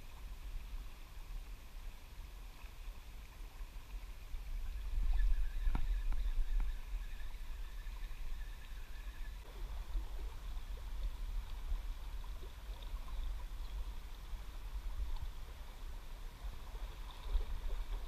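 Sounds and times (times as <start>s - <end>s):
river water flowing and lapping: 0.0s - 18.0s.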